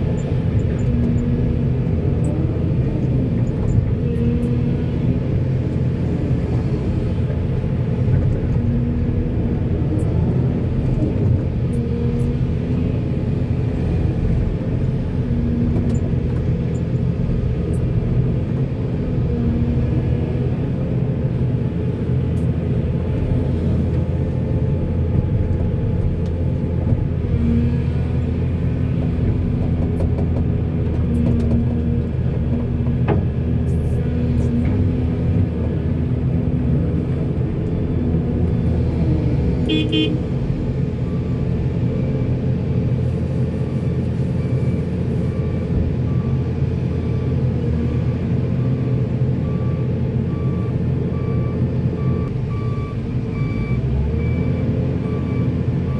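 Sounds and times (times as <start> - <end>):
backhoe diesel engine rumbling: 0.0 - 55.9.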